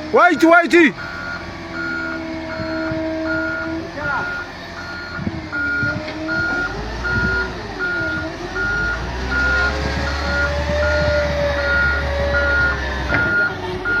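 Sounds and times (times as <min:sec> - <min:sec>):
bulldozer diesel engine: 0:00.0 - 0:14.0
reversing alarm beeping: 0:00.2 - 0:14.0.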